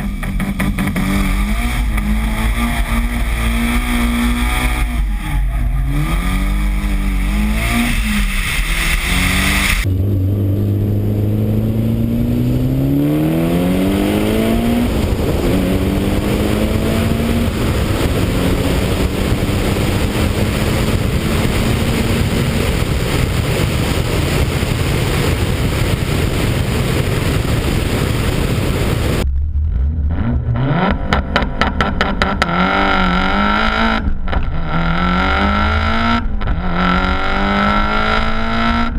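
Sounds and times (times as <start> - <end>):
car engine accelerating through gears: 0.0 - 25.2, 28.8 - 38.9
wind rushing over microphone: 0.0 - 32.7.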